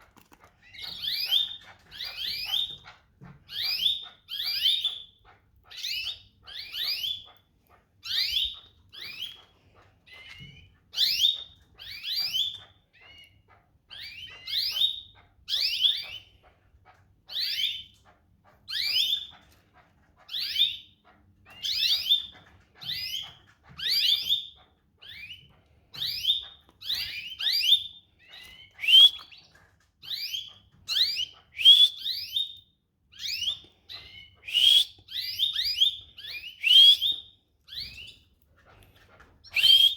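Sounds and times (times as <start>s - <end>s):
canary chirping: 0.1s - 39.9s.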